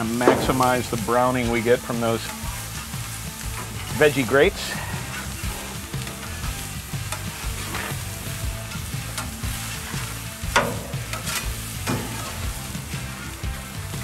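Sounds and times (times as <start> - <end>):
metal spatula scraping grate: 0.0 - 13.4
burgers sizzling on a grill: 0.0 - 14.0.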